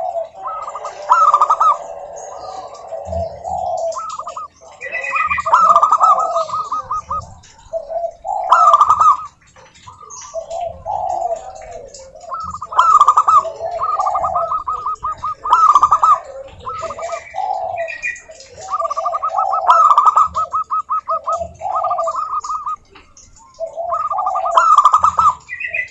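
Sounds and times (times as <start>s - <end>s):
doves cooing: 0.0s - 25.9s.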